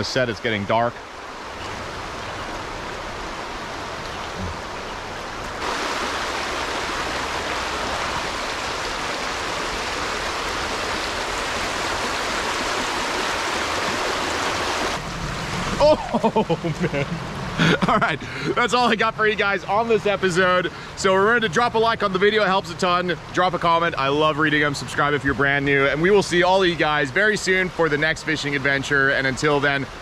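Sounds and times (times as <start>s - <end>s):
creek water rushing over rocks: 0.0s - 30.0s.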